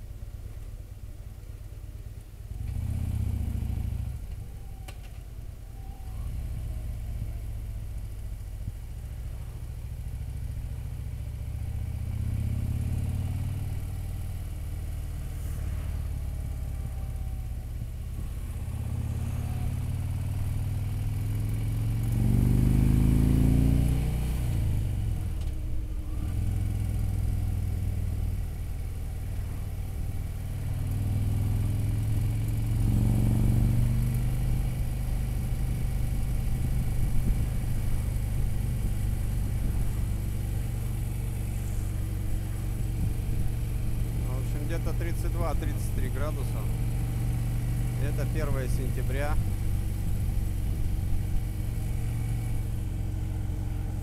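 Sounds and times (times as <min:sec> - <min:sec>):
motorcycle engine running: 0:00.0 - 0:04.8, 0:05.4 - 0:54.0.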